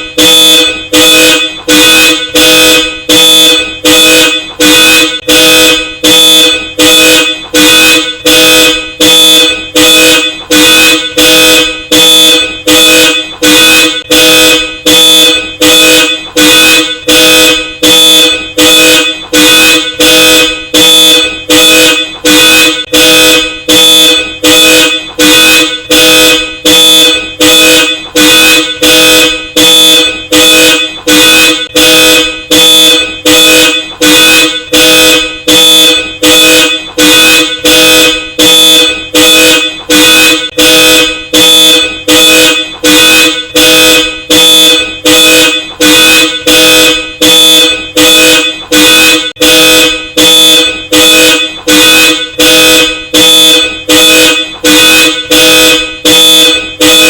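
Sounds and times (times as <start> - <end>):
car alarm horn honks: 0.0 - 57.0.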